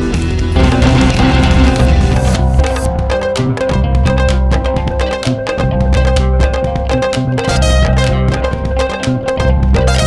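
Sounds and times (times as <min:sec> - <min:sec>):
rock music with guitar and drums: 0:00.0 - 0:10.0.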